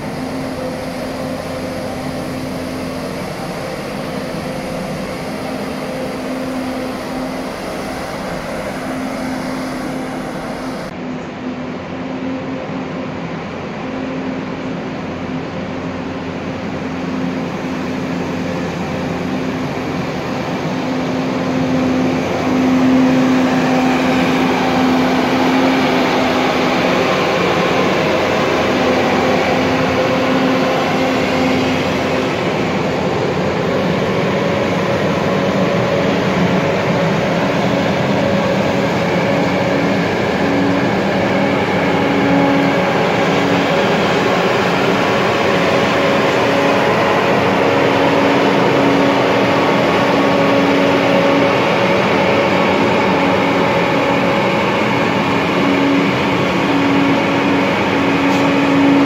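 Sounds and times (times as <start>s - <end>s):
sprayer hum: 0.0s - 59.0s
tractor engine droning: 0.0s - 59.0s.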